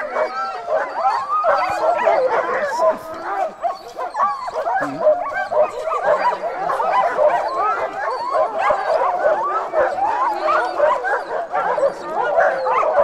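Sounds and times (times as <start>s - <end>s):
dogs whining and yelping: 0.0s - 13.0s.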